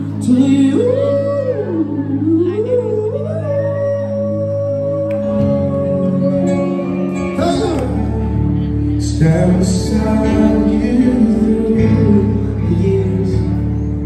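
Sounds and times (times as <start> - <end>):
keyboard and guitar band: 0.0 - 14.0
man singing into a microphone: 0.0 - 14.0.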